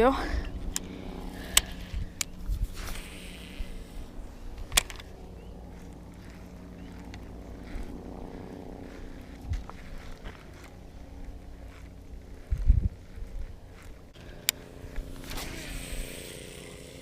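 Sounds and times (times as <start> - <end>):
distant dirt bike engine: 0.0 - 17.0.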